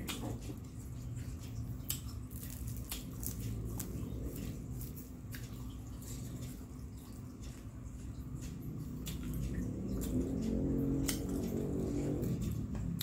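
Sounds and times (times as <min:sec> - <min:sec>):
chewing fried snacks: 0:00.0 - 0:13.0
faint steady hum: 0:00.0 - 0:13.0.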